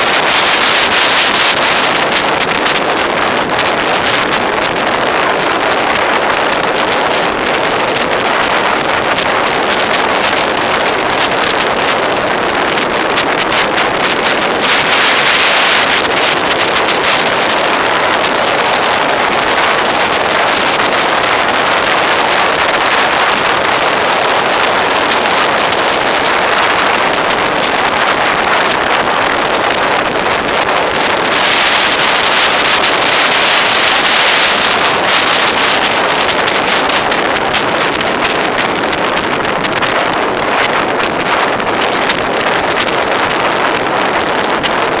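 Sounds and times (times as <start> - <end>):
motorcycle road noise: 0.0 - 45.0
wind rush on microphone: 0.0 - 45.0.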